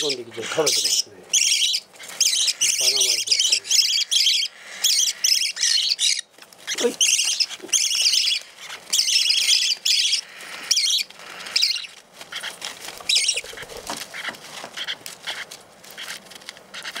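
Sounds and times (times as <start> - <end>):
beaks ticking: 0.0 - 17.0
parrots chirping: 0.0 - 17.0.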